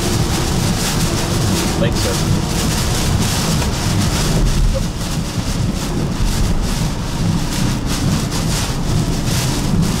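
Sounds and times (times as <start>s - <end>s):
heavy rain hitting vehicle: 0.0s - 10.0s
tyres and wind rumble: 0.0s - 10.0s.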